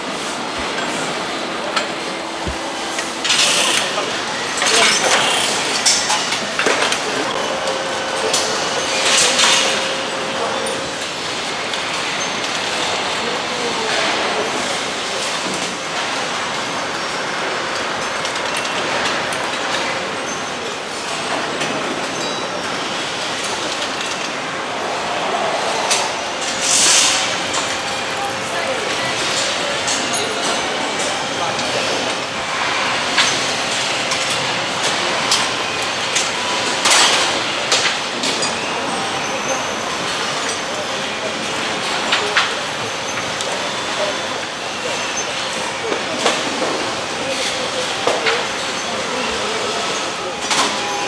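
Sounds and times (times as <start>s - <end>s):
machinery noise: 0.0s - 51.0s
steady factory din: 0.0s - 51.0s.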